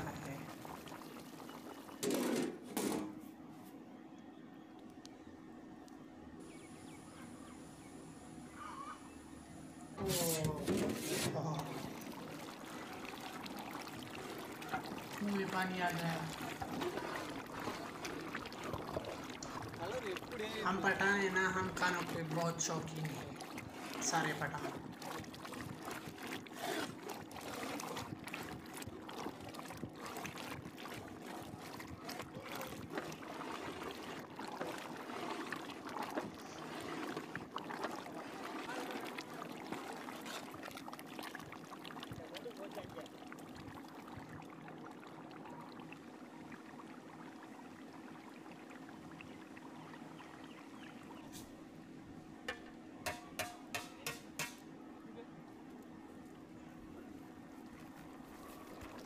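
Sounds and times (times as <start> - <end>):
gravy bubbling in a pot: 0.0 - 3.0, 10.0 - 59.0
faint steady hum: 0.0 - 59.0.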